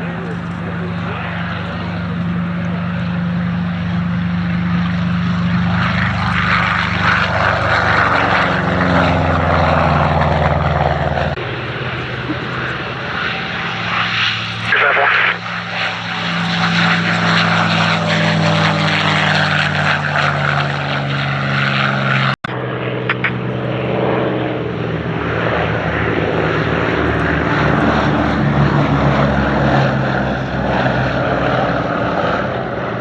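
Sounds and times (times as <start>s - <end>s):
aircraft engine flypast: 0.0s - 33.0s.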